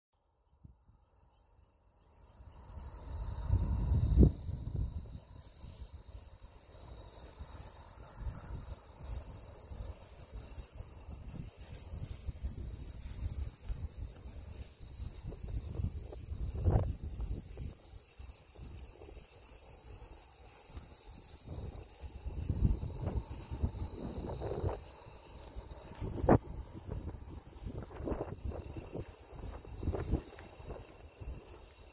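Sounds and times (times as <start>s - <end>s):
crickets trilling: 0.2s - 31.9s.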